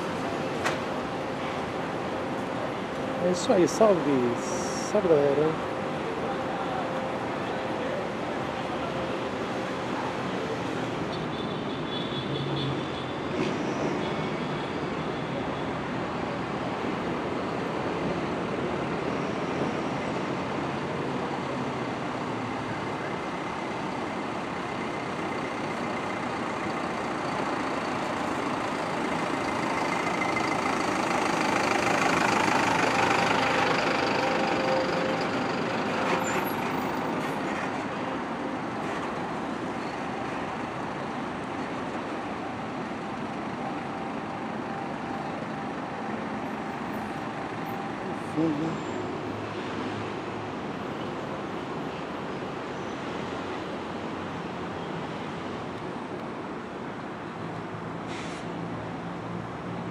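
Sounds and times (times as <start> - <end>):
bus diesel engines droning: 0.0 - 11.3, 13.1 - 59.9
bus passing close: 0.0 - 59.9.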